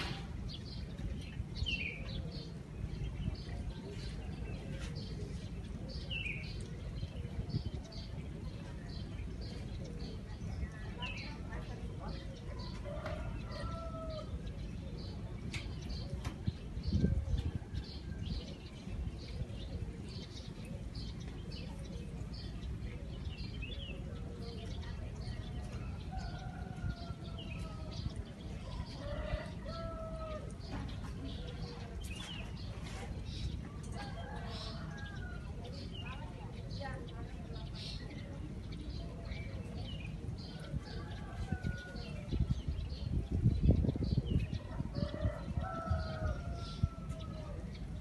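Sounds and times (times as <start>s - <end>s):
low city rumble: 0.0s - 48.0s
small birds chirping: 0.0s - 48.0s.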